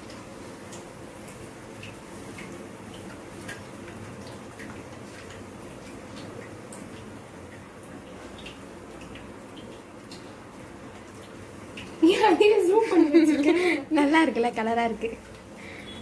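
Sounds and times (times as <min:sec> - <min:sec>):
frying oil crackling and popping: 0:00.0 - 0:16.0.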